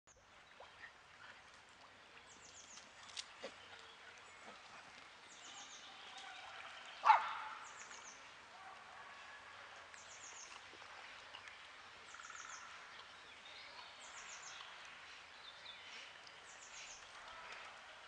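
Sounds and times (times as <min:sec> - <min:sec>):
faint outdoor ambience: 0:00.1 - 0:18.0
songbird singing: 0:00.1 - 0:18.0.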